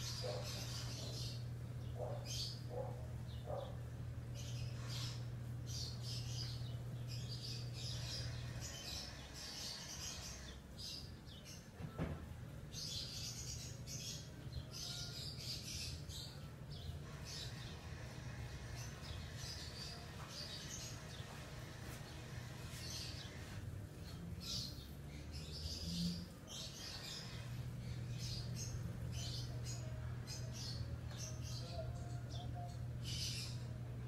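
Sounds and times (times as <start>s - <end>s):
birds chirping: 0.0s - 34.0s
low steady hum: 0.0s - 34.0s.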